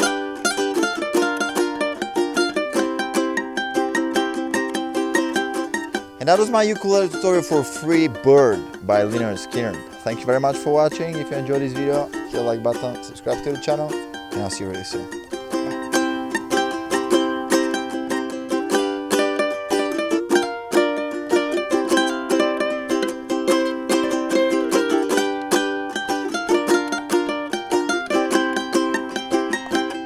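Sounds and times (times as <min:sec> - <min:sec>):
ukulele picking: 0:00.0 - 0:30.0.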